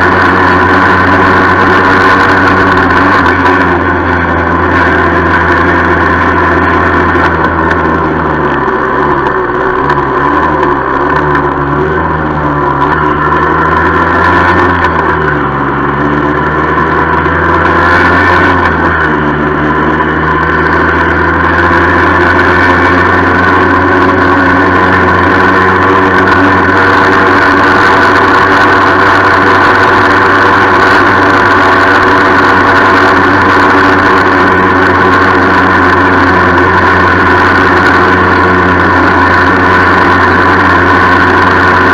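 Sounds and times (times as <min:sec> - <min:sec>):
moped engine running: 0:00.0 - 0:41.9
rattling noise: 0:00.0 - 0:41.9.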